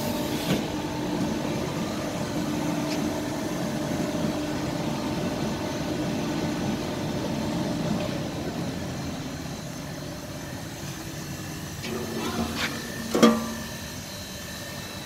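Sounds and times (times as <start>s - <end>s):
mixer machine humming: 0.0s - 15.0s.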